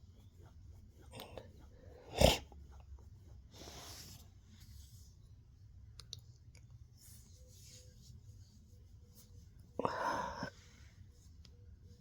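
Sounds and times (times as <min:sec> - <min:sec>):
low room hum: 0:00.0 - 0:12.0
soft breaths: 0:00.8 - 0:05.5, 0:06.7 - 0:12.0.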